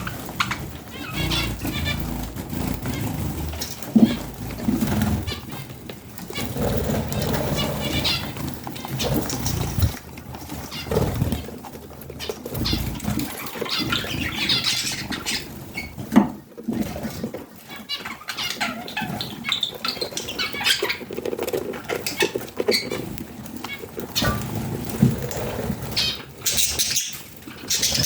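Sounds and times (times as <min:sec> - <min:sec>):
budgerigars chirping and chattering: 0:00.0 - 0:16.2, 0:16.8 - 0:28.0
wings flapping: 0:00.0 - 0:28.0.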